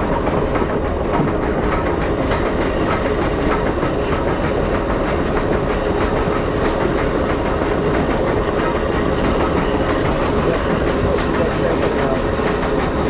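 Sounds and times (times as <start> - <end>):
train rumbling on track: 0.0 - 13.0
wheels clattering on rail joints: 0.0 - 13.0.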